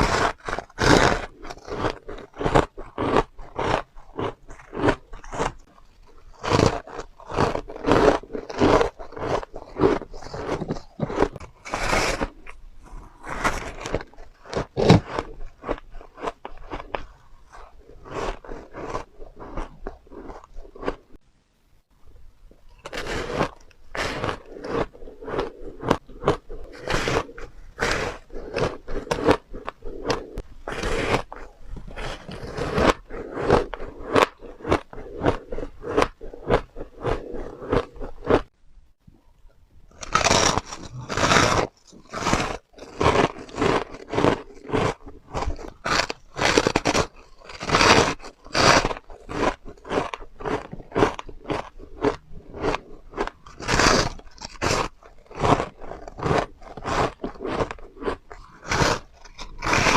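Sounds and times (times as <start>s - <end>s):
chewing crunchy ice: 0.0s - 21.2s, 22.5s - 38.6s, 39.9s - 59.9s.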